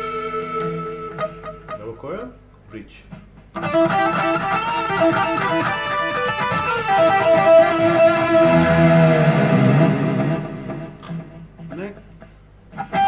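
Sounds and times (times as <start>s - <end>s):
electric guitar picked notes: 0.0s - 2.6s, 3.2s - 13.0s.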